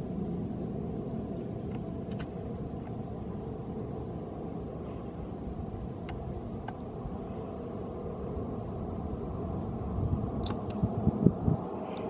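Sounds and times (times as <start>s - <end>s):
jet engines low rumble: 0.0s - 12.0s.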